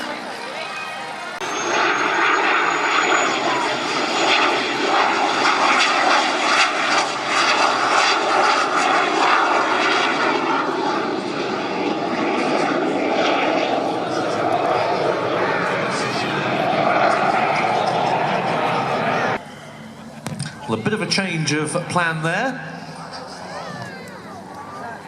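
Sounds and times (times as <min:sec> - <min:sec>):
aircraft engine rushing: 0:00.0 - 0:25.0.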